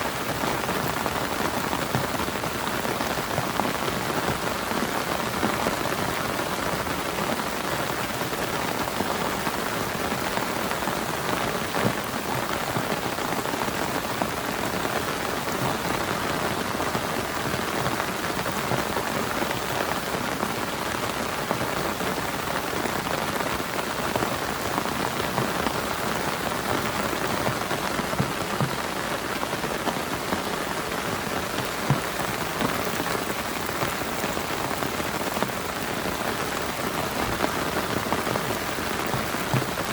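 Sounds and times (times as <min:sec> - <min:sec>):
heavy rain on a tarp: 0:00.0 - 0:39.9.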